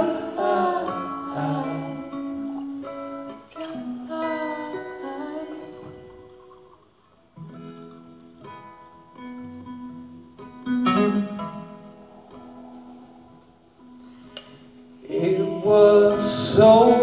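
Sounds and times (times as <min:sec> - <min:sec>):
acoustic guitar slow song: 0:00.0 - 0:17.0.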